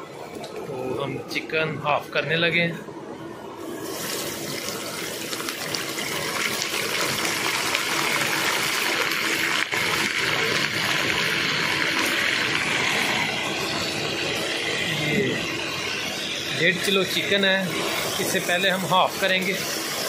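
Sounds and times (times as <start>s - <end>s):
chicken sizzling in hot oil: 3.6s - 20.0s.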